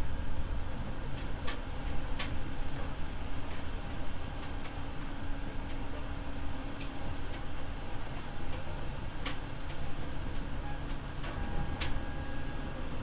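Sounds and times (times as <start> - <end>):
train wheels and motor rumbling: 0.0 - 13.0.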